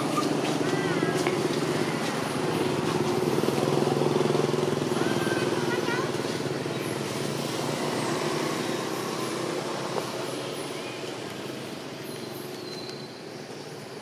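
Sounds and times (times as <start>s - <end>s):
motor vehicle engine: 0.0s - 13.2s.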